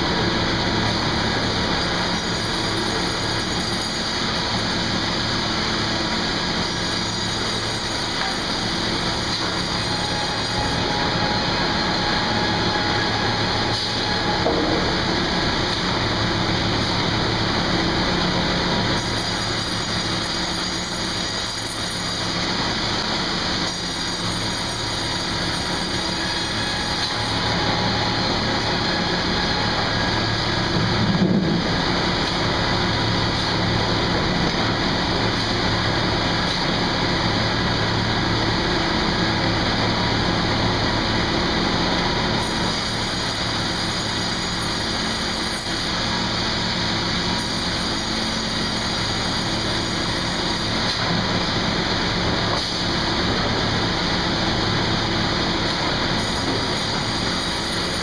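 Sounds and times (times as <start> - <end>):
low machine hum: 0.0 - 58.0
sawmill machinery running: 0.0 - 58.0.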